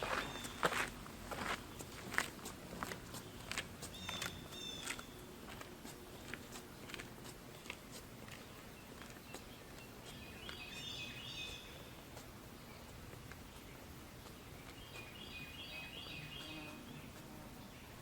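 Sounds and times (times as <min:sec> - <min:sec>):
outdoor background hiss: 0:00.0 - 0:18.0
songbird singing: 0:00.0 - 0:18.0.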